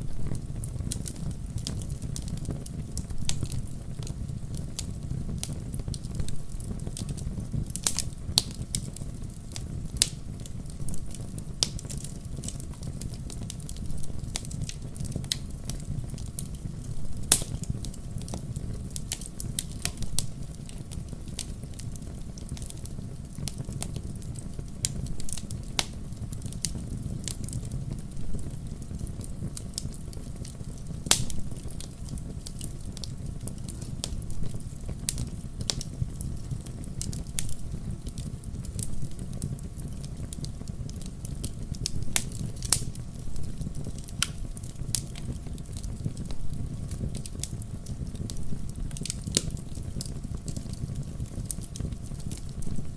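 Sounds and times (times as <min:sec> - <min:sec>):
wood fire burning: 0:00.0 - 0:52.9.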